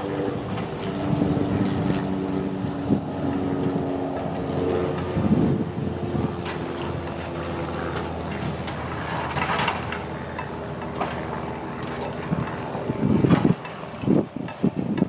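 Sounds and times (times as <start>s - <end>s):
truck engine and hydraulics humming: 0.0s - 15.0s.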